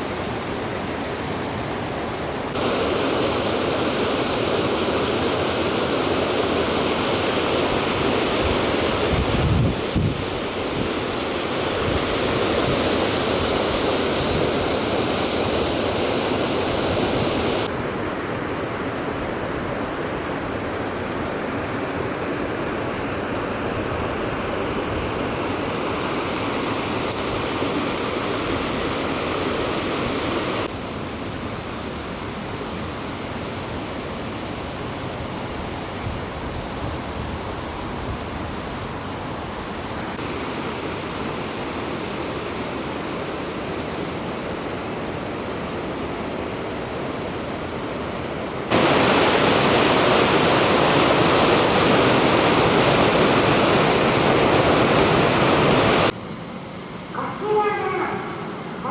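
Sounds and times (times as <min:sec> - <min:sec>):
rushing river water: 0:00.0 - 0:56.2.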